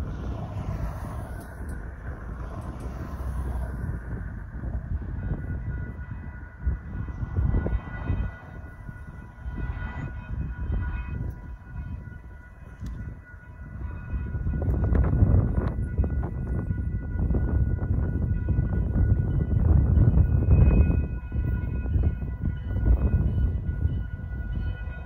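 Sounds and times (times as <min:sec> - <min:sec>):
crossing warning bells ringing: 0:00.0 - 0:25.0.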